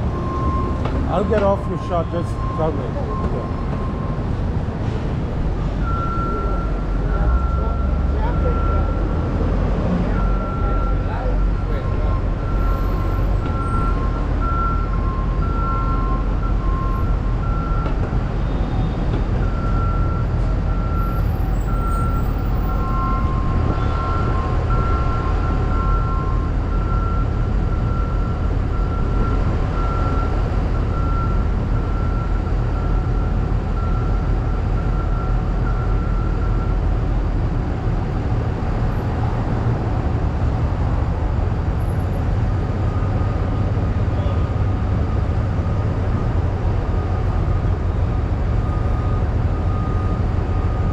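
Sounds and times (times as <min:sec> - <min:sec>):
vehicle reverse alarm beeping: 0:00.0 - 0:04.4, 0:05.8 - 0:09.4, 0:10.0 - 0:37.0, 0:41.8 - 0:50.9
street traffic rumble: 0:00.0 - 0:50.9.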